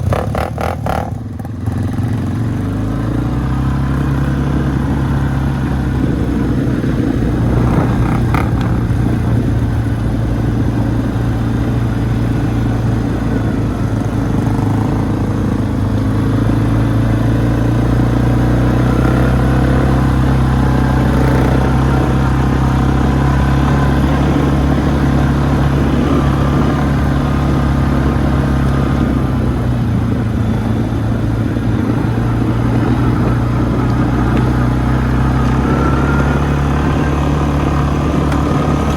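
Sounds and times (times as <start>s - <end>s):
atv engine droning: 0.0s - 38.9s.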